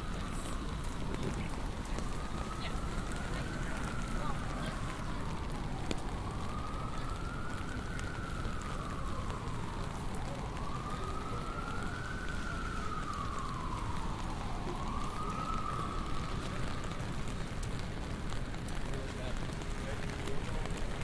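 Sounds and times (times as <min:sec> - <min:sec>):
city traffic rumble: 0:00.0 - 0:21.0
emergency siren wailing: 0:00.0 - 0:21.0.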